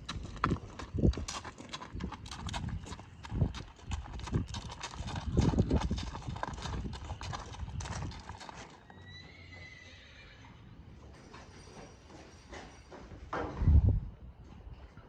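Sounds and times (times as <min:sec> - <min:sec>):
horse hooves clip-clopping: 0:00.0 - 0:10.4, 0:11.0 - 0:13.7.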